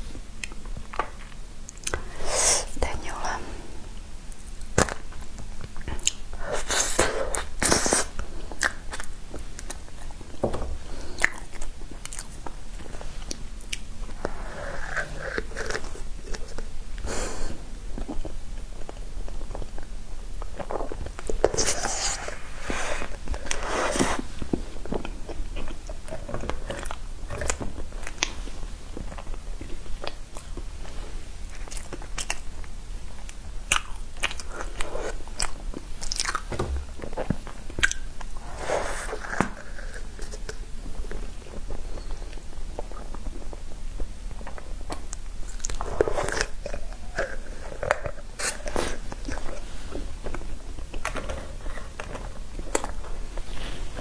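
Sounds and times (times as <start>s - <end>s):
person chewing cake: 0.2s - 2.3s, 2.9s - 54.0s.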